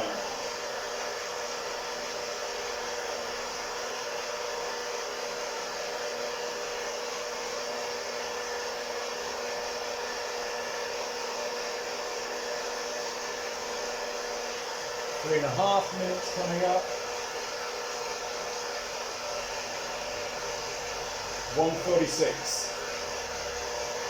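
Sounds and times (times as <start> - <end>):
coffee roaster fan whoosh: 0.0 - 24.0.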